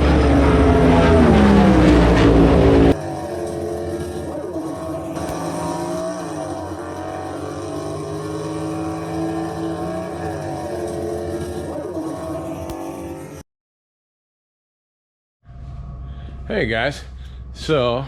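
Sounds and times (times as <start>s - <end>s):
vehicle engine drone: 0.0s - 13.4s, 15.4s - 18.0s.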